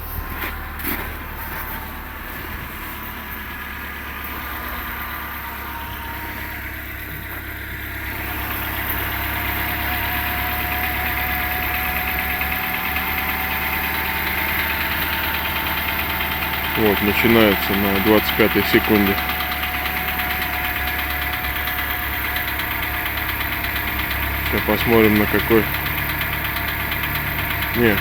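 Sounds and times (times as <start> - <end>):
car engine idling: 0.0 - 28.0
rustling chirring engine noise: 0.0 - 28.0.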